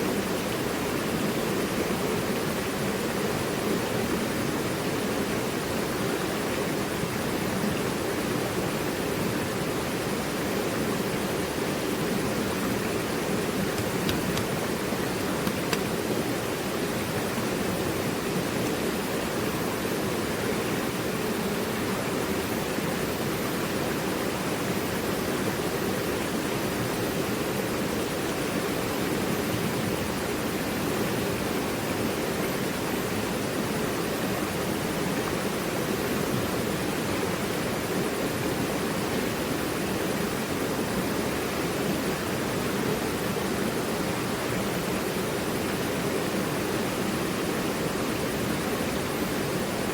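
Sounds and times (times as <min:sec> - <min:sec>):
river rushing over rocks: 0:00.0 - 0:49.9.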